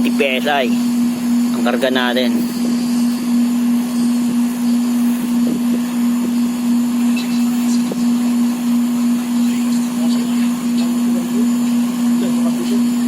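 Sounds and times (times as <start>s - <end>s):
air conditioner compressor hum: 0.0s - 13.0s
air conditioner fan: 0.0s - 13.0s.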